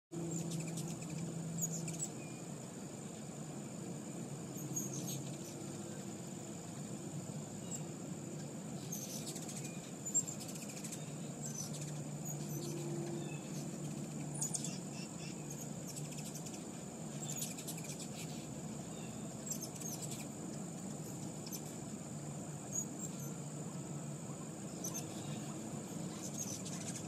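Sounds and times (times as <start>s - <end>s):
hummingbird chip notes: 0.2s - 27.0s.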